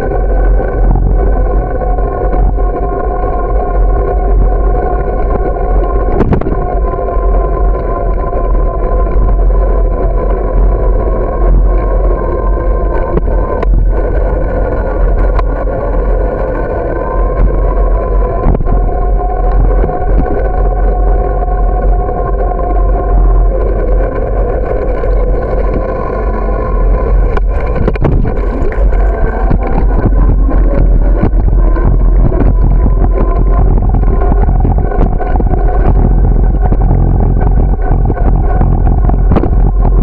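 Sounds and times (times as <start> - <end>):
steady droning hum: 0.0 - 40.0
wind rumbling on microphone: 0.0 - 40.0.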